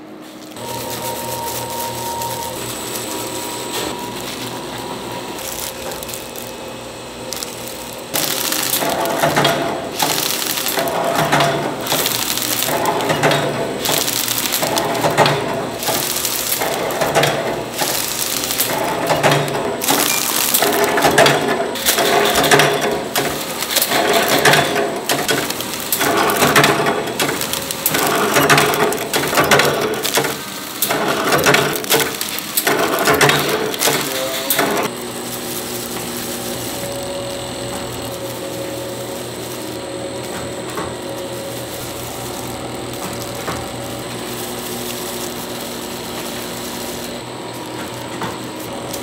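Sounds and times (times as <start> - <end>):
packaging machine clicking and rattling: 0.0 - 49.0.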